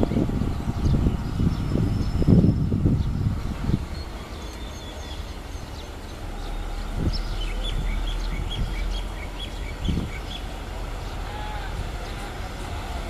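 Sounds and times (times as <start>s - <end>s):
diesel engines idling: 0.0s - 13.0s.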